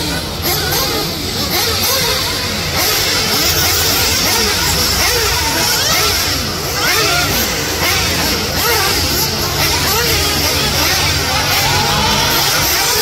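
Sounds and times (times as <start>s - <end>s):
rc car engines buzzing: 0.0s - 13.0s.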